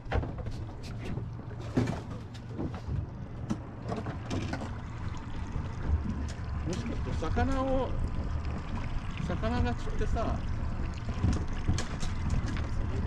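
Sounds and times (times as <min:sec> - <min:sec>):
water splashing against boat hull: 0:00.0 - 0:13.0
steady low rumble: 0:00.6 - 0:13.0.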